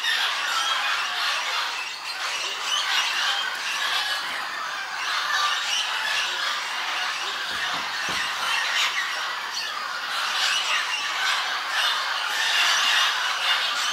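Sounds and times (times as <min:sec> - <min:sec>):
parrots squawking and chattering: 0:00.0 - 0:13.9.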